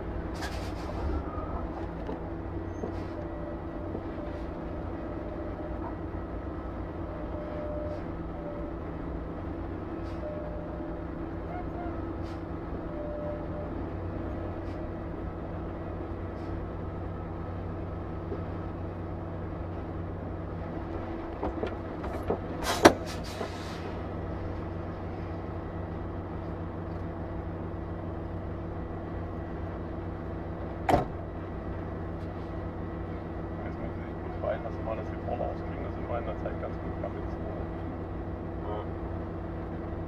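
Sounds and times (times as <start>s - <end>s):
vehicle engine hum: 0.0s - 40.0s.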